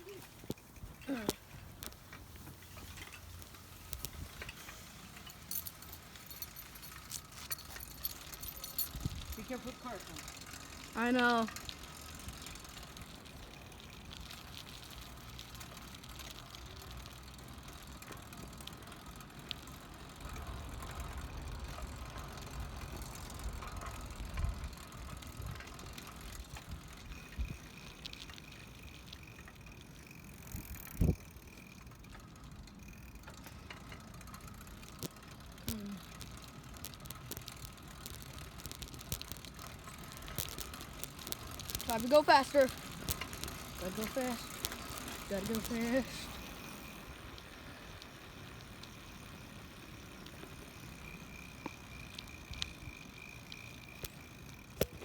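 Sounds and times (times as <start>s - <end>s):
small clicks and rattles: 0.0s - 55.0s
wind and tyre rumble: 0.0s - 55.0s.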